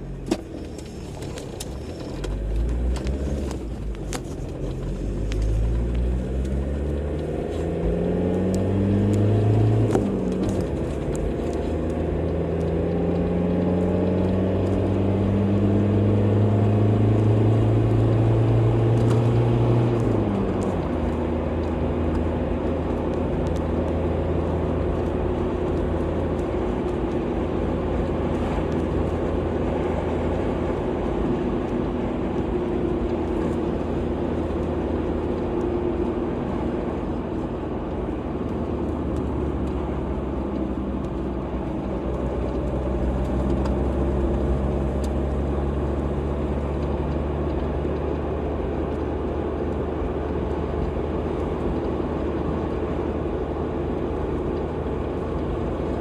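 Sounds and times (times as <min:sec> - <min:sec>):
car engine accelerating: 0:00.0 - 0:56.0
road noise: 0:00.0 - 0:56.0.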